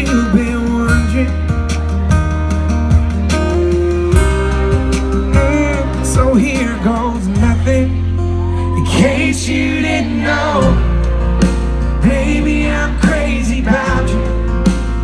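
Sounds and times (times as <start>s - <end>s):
man singing: 0.0s - 2.2s, 4.1s - 15.0s
live country band: 0.0s - 15.0s.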